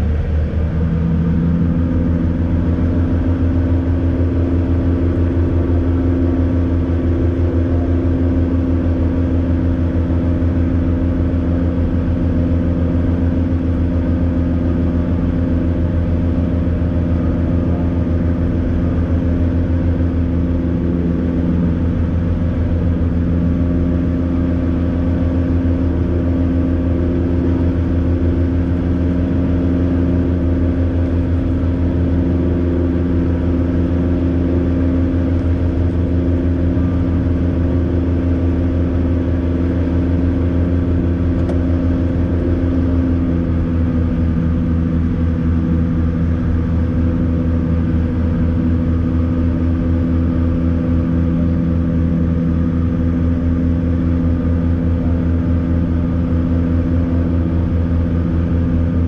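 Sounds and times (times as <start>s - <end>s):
airplane engine drone in cabin: 0.0s - 59.0s.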